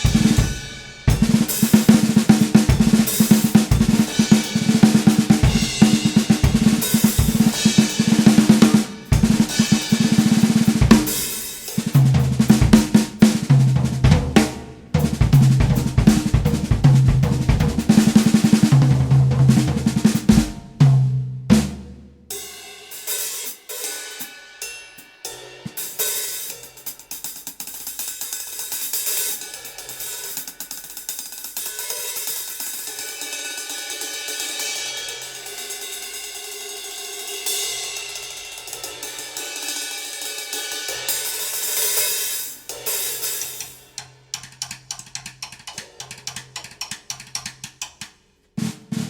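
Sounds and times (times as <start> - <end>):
drum kit with snare and cymbals: 0.0 - 49.0.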